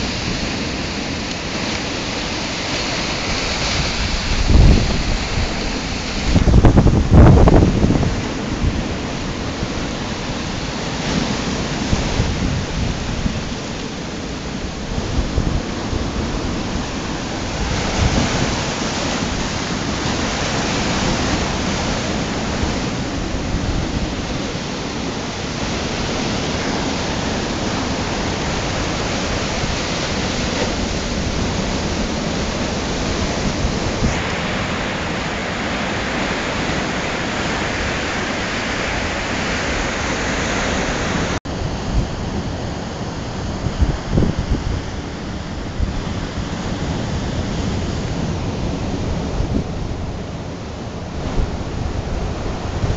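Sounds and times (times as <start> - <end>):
surf breaking on beach: 0.0 - 52.9
wind rumbling on microphone: 0.0 - 52.9.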